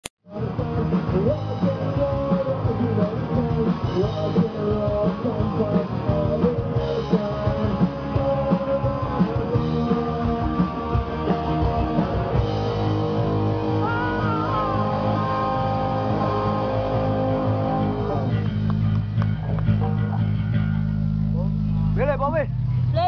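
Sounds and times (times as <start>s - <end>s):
drum kit: 0.3s - 21.6s
electric bass sliding notes: 0.3s - 23.0s
electric guitar: 0.3s - 23.0s.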